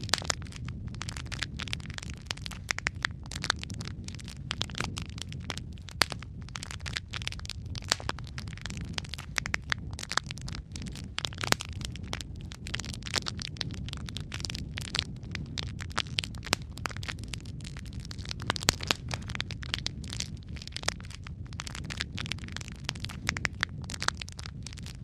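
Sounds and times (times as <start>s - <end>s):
logs crackling and popping: 0.0s - 25.0s
low rumble of flames: 0.0s - 25.0s.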